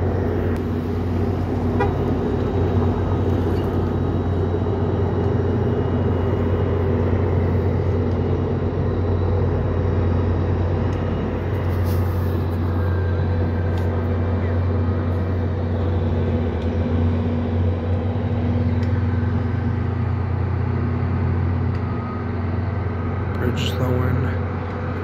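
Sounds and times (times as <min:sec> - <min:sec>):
diesel locomotive droning: 0:00.0 - 0:25.0
steady hum: 0:00.0 - 0:25.0.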